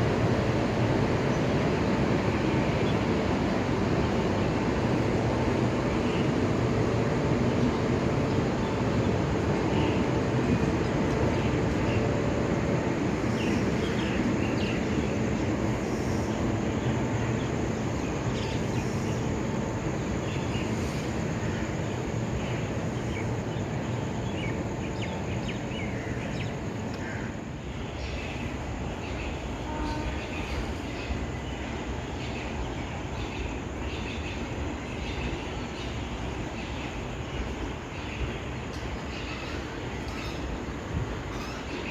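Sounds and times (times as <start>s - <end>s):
train running on tracks: 0.0s - 41.9s.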